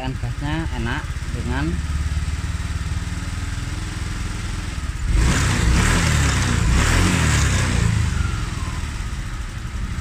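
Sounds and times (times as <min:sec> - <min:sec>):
scooter engine idling and revving: 0:00.0 - 0:10.0.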